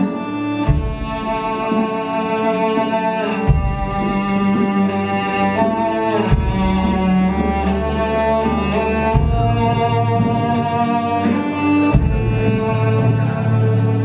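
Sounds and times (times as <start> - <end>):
bowed cello melody: 0.0 - 14.0
deep bass notes: 0.0 - 14.0.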